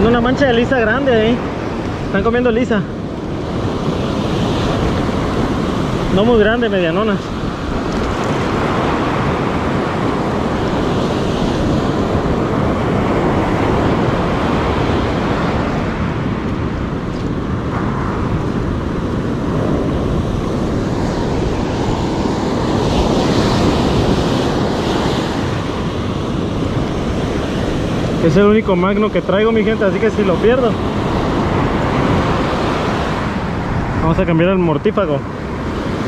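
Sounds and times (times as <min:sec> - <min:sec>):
ocean surf breaking: 0:00.0 - 0:36.0
wind buffeting microphone: 0:00.0 - 0:36.0.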